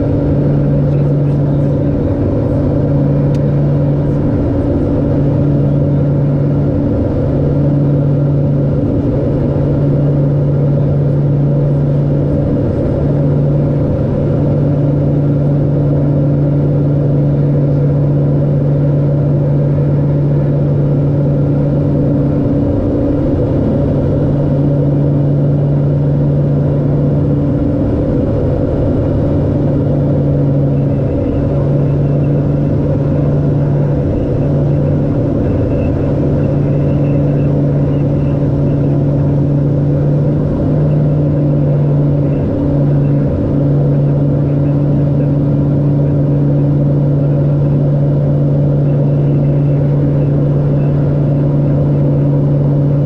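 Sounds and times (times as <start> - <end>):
turboprop engines droning: 0.0 - 53.0.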